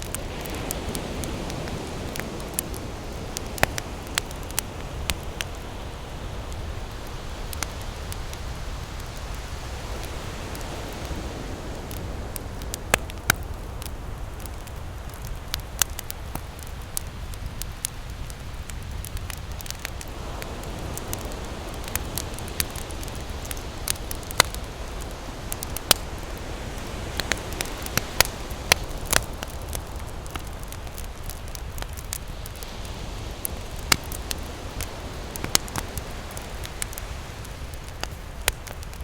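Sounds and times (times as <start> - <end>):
campfire crackling and popping: 0.0 - 39.0
ocean waves rumbling: 0.0 - 39.0.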